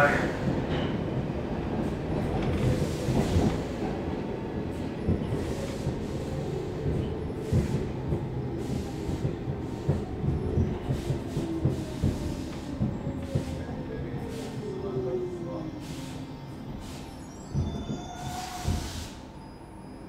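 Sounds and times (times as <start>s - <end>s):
train wheels rumbling on track: 0.0s - 19.3s.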